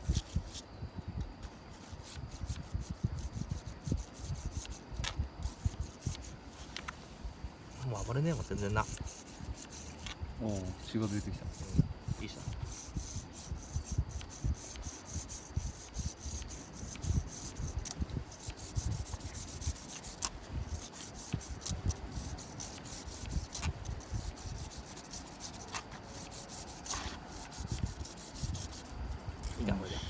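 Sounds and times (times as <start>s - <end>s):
handling noise rubbing and scraping: 1.4s - 30.0s.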